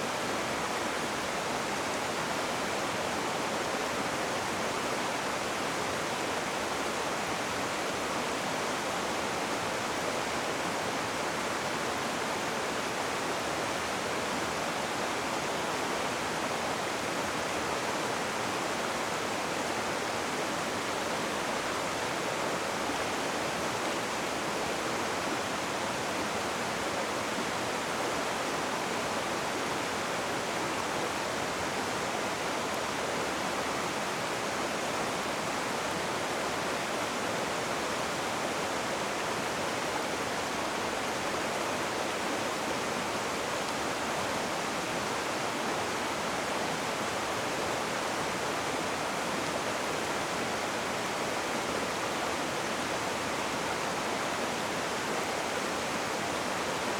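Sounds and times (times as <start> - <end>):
rushing water: 0.0 - 56.9.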